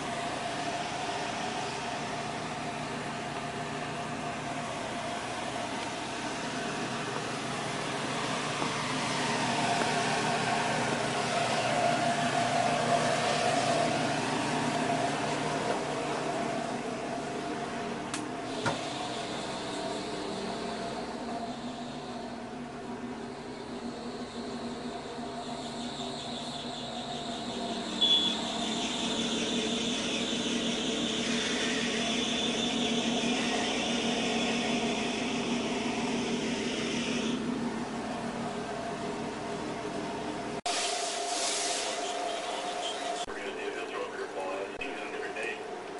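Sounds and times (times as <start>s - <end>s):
outboard engines idling: 0.0s - 40.7s, 41.4s - 45.9s
steady mechanical hum: 0.0s - 45.9s.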